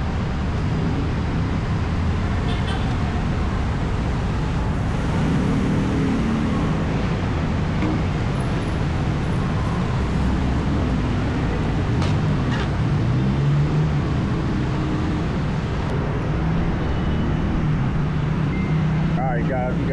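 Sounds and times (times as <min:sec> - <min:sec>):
car engines running: 0:00.0 - 0:16.8
tyres passing on street: 0:00.0 - 0:19.9.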